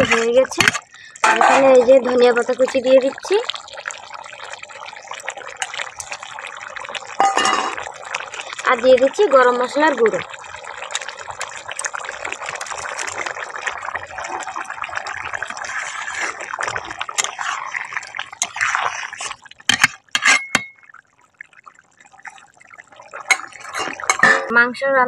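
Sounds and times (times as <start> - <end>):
spatula stirring in a pan: 0.0 - 20.8, 23.2 - 24.4
curry bubbling: 0.0 - 24.7.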